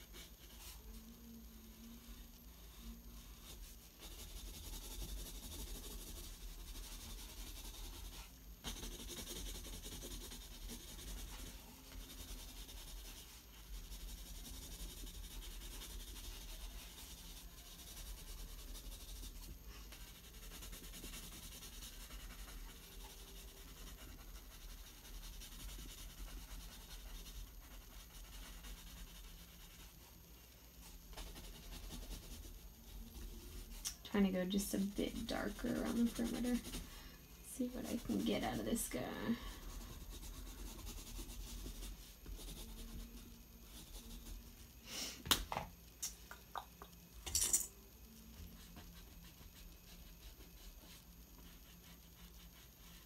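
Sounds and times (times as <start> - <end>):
pencil scratching on paper: 0.0 - 30.2, 30.8 - 44.7, 48.3 - 53.0.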